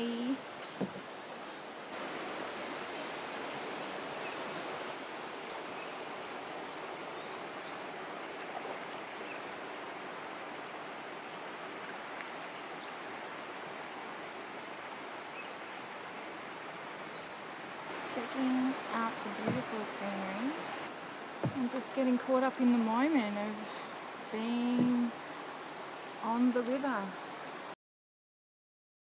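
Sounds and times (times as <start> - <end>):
flowing river water: 0.0 - 27.8.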